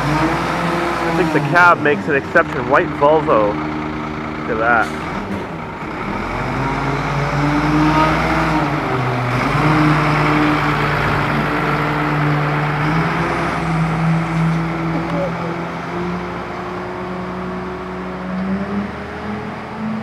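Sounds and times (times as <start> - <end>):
garbage truck diesel engine running: 0.0 - 18.3.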